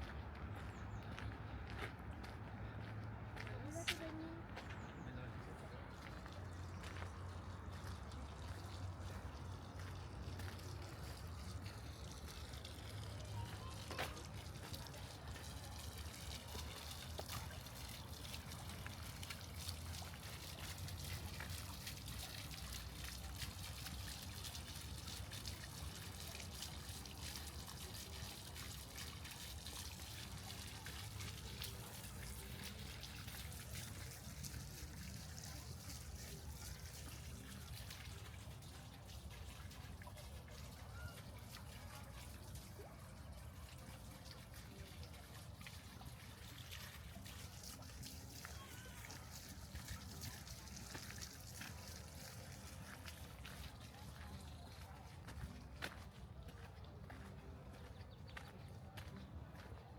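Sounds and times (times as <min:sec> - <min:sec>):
fountain water trickling: 0:00.0 - 0:59.9.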